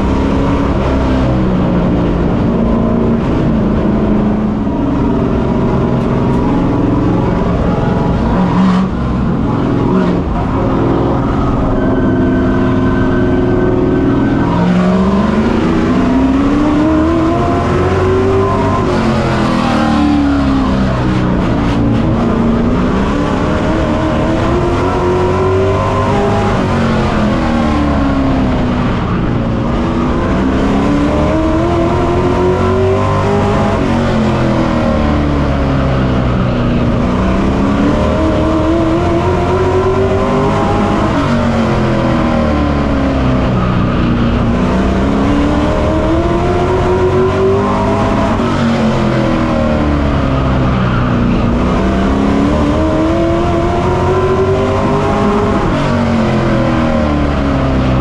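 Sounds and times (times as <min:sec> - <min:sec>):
race truck engine revving: 0:00.0 - 0:58.0.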